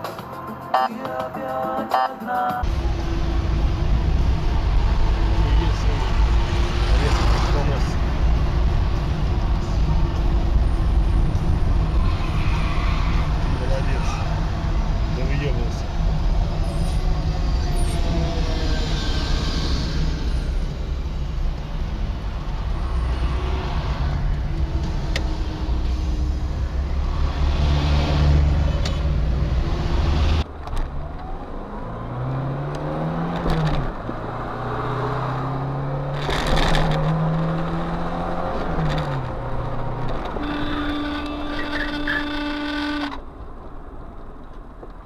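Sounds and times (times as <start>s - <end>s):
car traffic: 2.0s - 45.0s.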